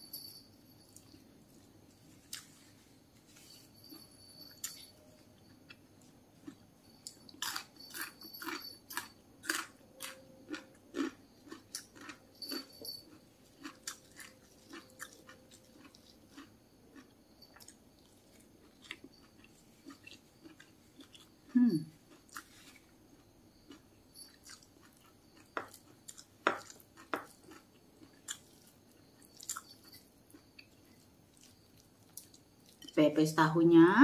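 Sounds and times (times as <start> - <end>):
person chewing crunchy food: 0.9 - 4.8, 5.4 - 33.0.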